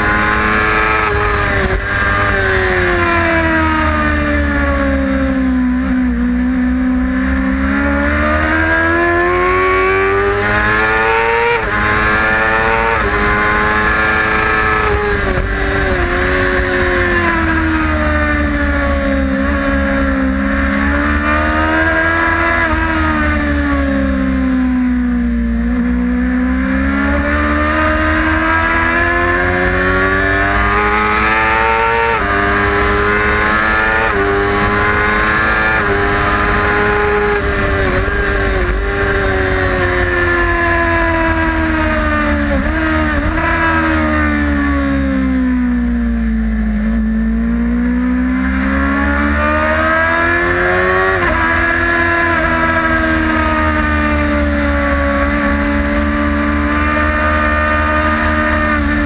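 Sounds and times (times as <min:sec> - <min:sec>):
wind rumble: 0:00.0 - 0:56.1
motorcycle engine revving: 0:00.0 - 0:59.0.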